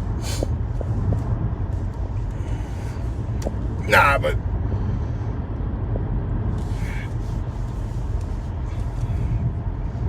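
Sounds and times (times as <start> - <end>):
low vehicle rumble: 0.0 - 10.0.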